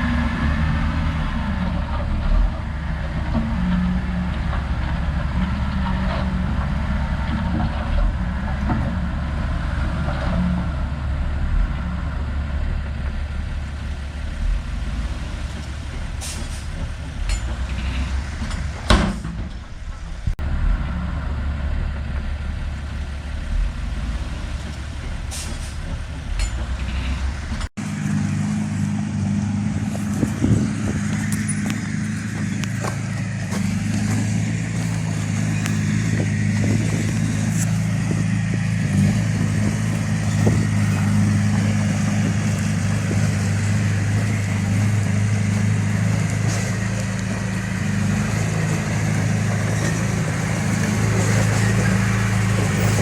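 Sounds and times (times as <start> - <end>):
different engine running: 0.0 - 53.0
heavy diesel engine running: 0.0 - 53.0.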